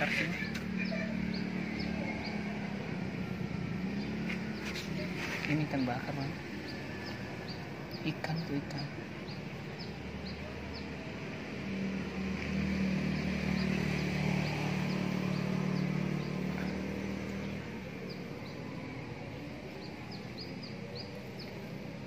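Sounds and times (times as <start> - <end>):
bird chirps: 0.0 - 22.0
low engine hum: 0.0 - 22.0.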